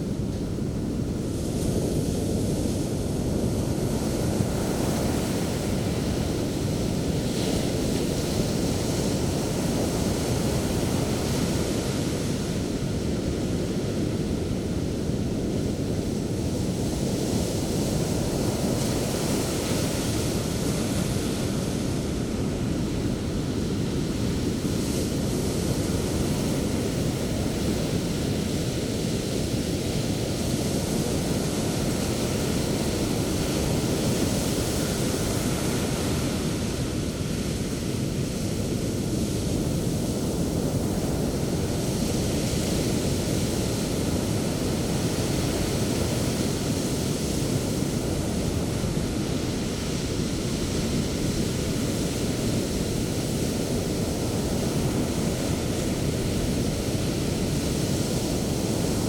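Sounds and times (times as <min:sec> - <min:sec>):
sea surf roaring and hissing: 0:00.0 - 0:59.0.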